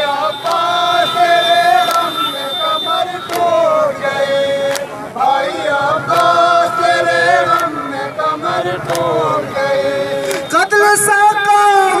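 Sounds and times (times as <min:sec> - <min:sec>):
men chanting in chorus: 0:00.0 - 0:10.5.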